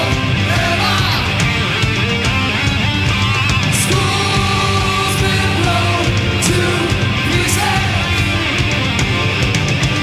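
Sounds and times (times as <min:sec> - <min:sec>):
heavy rock music: 0:00.0 - 0:10.0.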